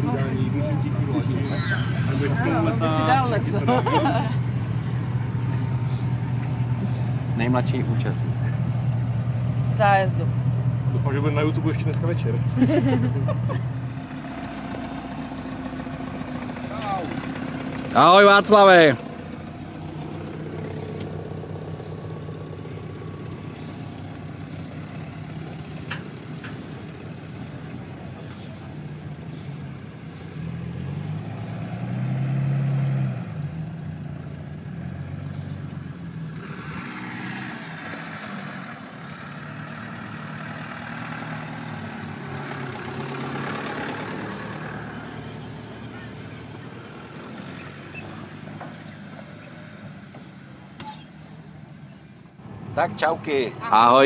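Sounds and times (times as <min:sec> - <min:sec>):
off-road engines running: 0:00.0 - 0:54.0.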